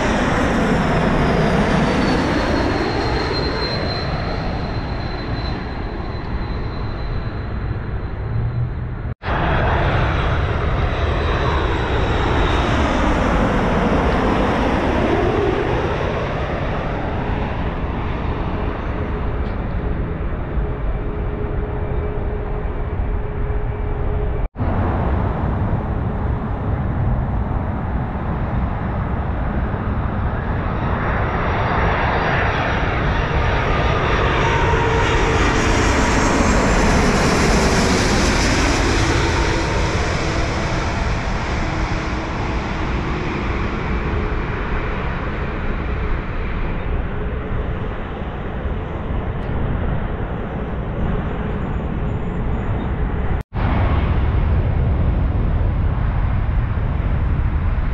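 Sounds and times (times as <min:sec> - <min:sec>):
jet airliner passing overhead: 0:00.0 - 0:57.9.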